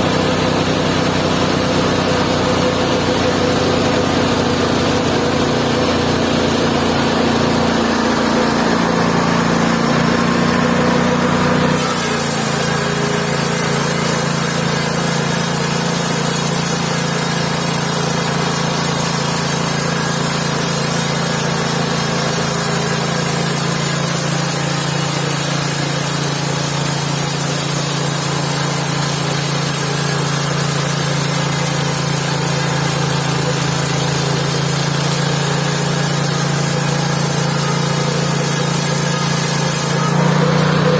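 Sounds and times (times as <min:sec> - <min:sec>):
band sawmill engine running: 0:00.0 - 0:40.9
saw blade hissing through log: 0:00.0 - 0:40.9.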